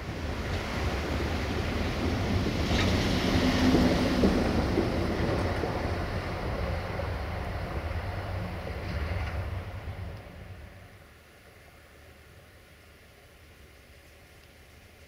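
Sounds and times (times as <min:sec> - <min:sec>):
freight train rumbling: 0:00.0 - 0:12.6.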